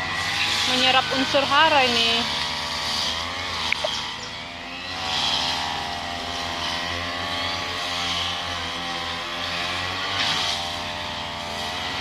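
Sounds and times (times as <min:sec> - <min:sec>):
brush cutter engine running: 0:00.0 - 0:12.0.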